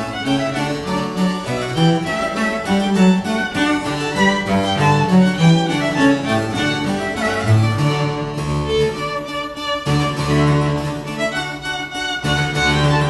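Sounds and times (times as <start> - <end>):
harpsichord: 0.0 - 13.0
violin and cello: 0.0 - 13.0.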